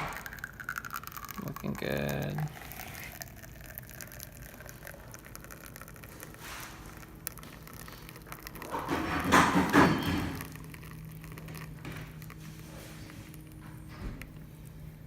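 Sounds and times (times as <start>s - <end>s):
espresso pattering into a cup: 0.0s - 14.8s
espresso machine hiss: 0.0s - 14.9s.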